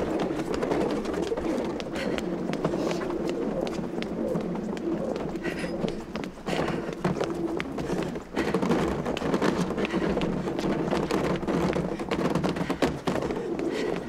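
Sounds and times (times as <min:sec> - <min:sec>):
hurried footsteps on pavement: 0:00.0 - 0:14.0
wheeled suitcase rolling: 0:00.0 - 0:14.0.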